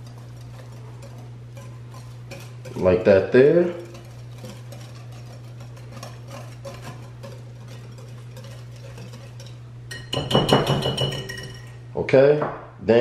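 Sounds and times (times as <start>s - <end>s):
whisk clicking against glass bowl: 0.0s - 11.8s
steady low hum: 0.0s - 13.0s.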